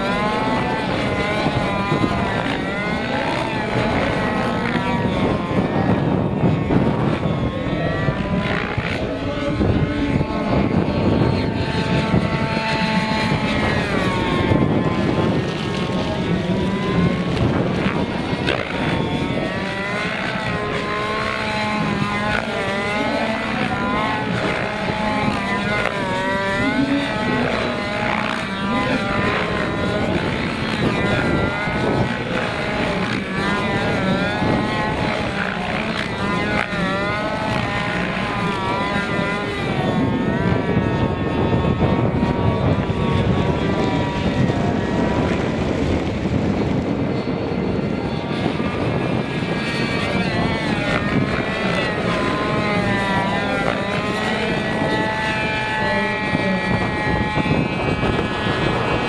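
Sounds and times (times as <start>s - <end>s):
rc helicopter engine and rotor: 0.0s - 59.0s
wind rumbling on microphone: 0.0s - 59.0s.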